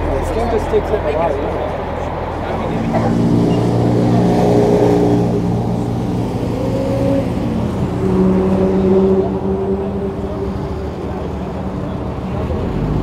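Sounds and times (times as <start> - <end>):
car engines driving slowly past: 0.0 - 13.0.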